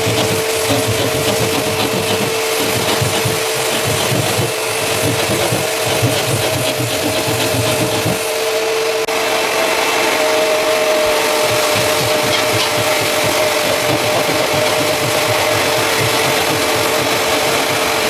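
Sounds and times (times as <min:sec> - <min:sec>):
hand saw rasping through drywall: 0:00.0 - 0:08.4, 0:11.3 - 0:18.0
vacuum cleaner whining: 0:00.0 - 0:18.0.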